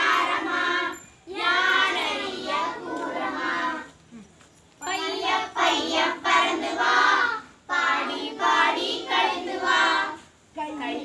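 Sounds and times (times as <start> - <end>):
children singing together: 0.0 - 3.9, 4.9 - 10.2.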